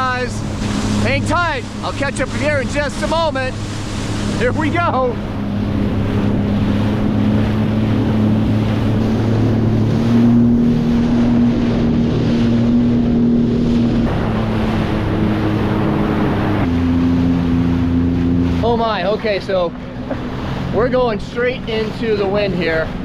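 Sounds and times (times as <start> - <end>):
personal watercraft engine: 0.0 - 23.0
water spray and rush: 0.0 - 23.0
wind buffeting microphone: 0.0 - 23.0.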